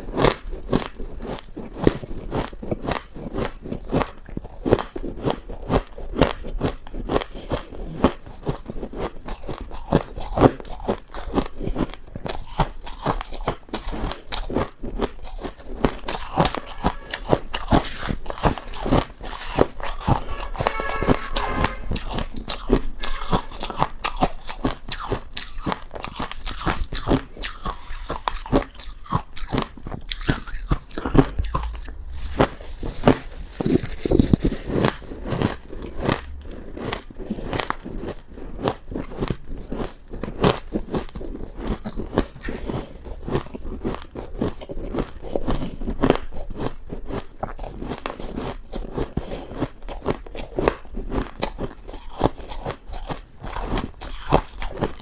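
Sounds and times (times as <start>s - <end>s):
crunching of freezer frost: 0.0s - 21.0s, 21.7s - 55.0s.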